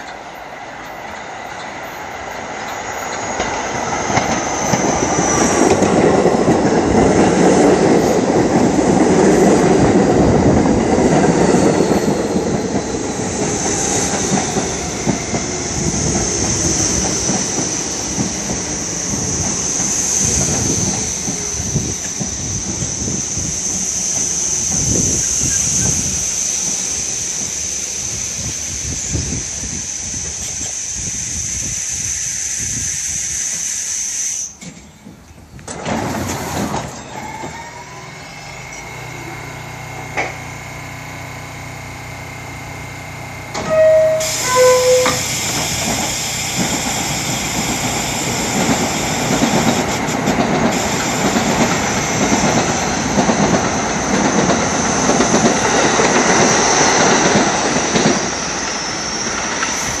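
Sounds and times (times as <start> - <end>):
train high hiss: 0.0 - 35.4, 36.0 - 60.0
train motors and wheels: 0.0 - 60.0.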